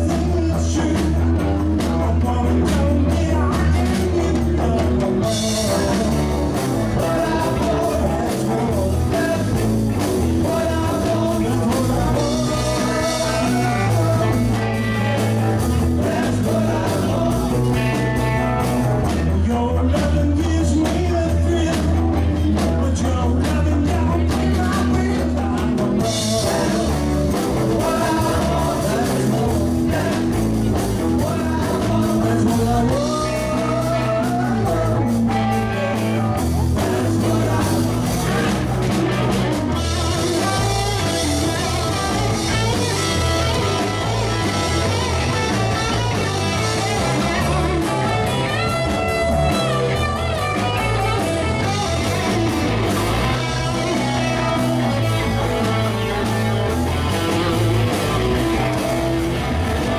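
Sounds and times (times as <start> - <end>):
electric guitar: 0.0 - 59.9
rock band playing: 0.0 - 59.9.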